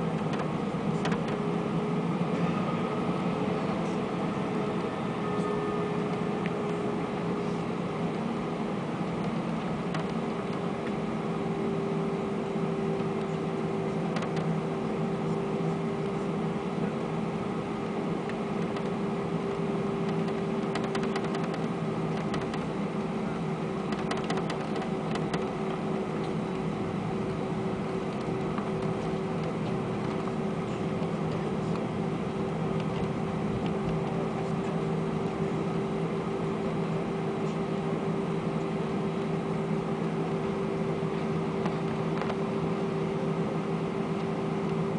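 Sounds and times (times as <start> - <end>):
air conditioning running: 0.0 - 44.9
jet engines at low power: 0.0 - 44.9.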